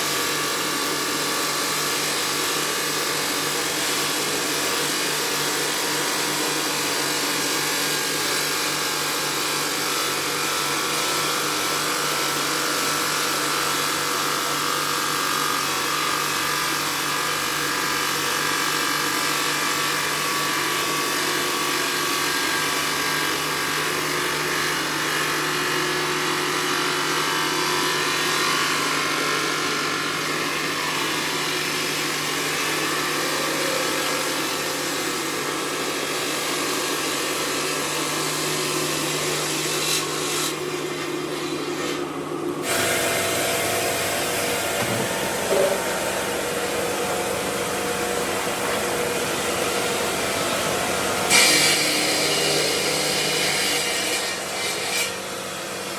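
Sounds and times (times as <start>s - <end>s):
stone cutting machinery: 0.0s - 55.9s.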